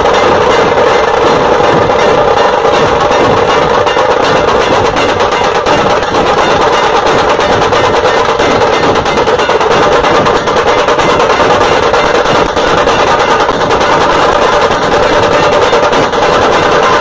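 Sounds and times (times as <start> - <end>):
dhol drums beating: 0.0 - 17.0.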